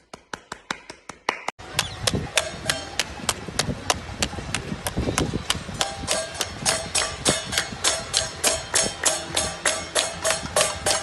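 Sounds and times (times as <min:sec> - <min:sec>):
rhythmic hand clapping: 0:00.0 - 0:11.0.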